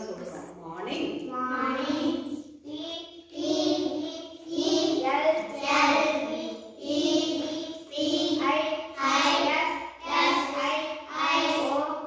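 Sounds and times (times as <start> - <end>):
children singing: 1.7 - 12.0.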